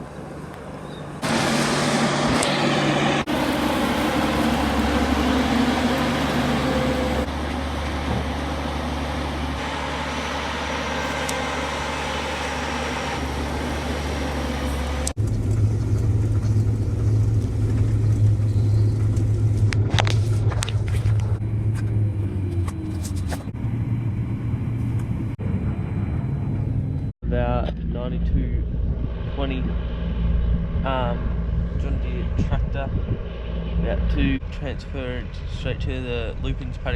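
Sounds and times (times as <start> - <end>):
road or wind noise: 0.0 - 36.9
vehicle engine running: 0.0 - 36.9.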